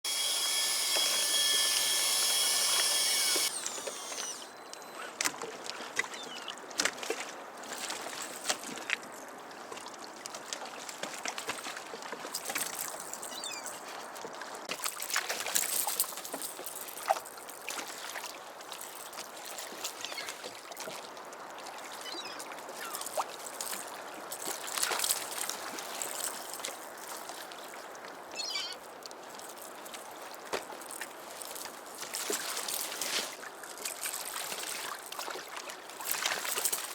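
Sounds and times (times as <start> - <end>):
water lapping around a kayak: 5.4 - 13.0, 13.9 - 36.9.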